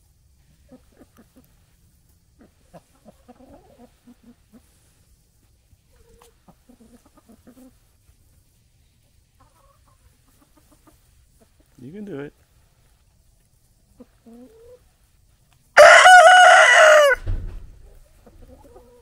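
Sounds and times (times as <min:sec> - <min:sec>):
chickens clucking softly: 0:00.3 - 0:15.6, 0:17.6 - 0:19.0.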